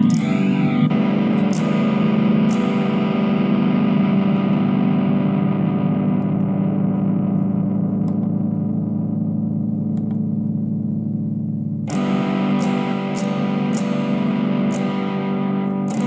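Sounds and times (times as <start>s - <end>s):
distorted electric guitar chord: 0.0s - 16.0s.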